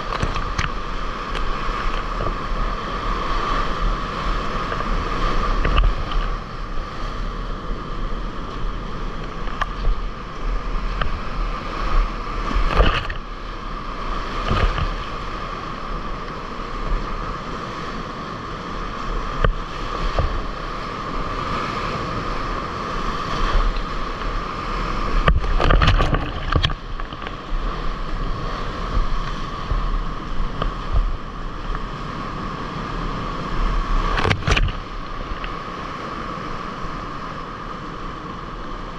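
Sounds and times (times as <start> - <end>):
water splashes: 0.0 - 7.2, 8.5 - 17.2, 18.7 - 32.1, 33.0 - 36.9
whitewater rushing: 0.0 - 38.9
wind on microphone: 0.0 - 38.9.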